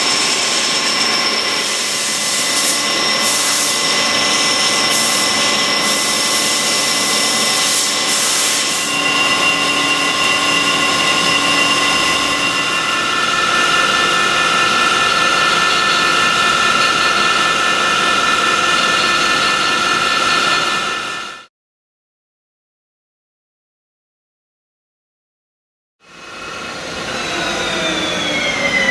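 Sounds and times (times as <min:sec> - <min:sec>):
high machine whine: 0:00.0 - 0:21.5, 0:26.0 - 0:28.9
machinery running: 0:00.0 - 0:21.5, 0:26.1 - 0:28.9.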